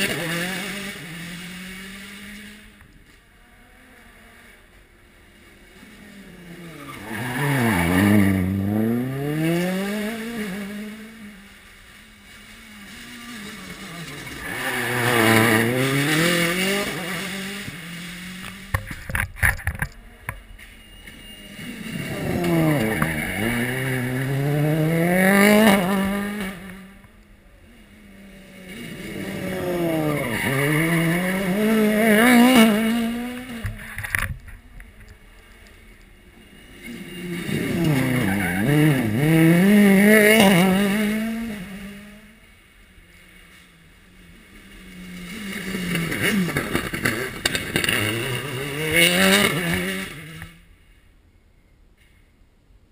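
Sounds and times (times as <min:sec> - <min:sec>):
rally cars passing at full throttle: 0:00.0 - 0:51.1.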